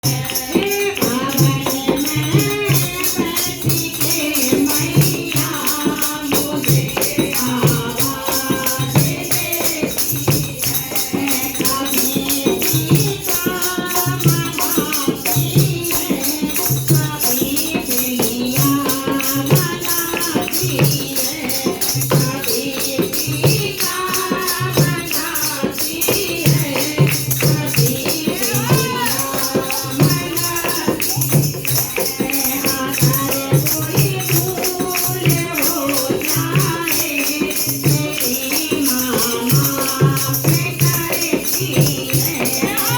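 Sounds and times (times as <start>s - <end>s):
fast jingling tambourine: 0.0s - 42.9s
steady drum beat: 0.0s - 42.9s.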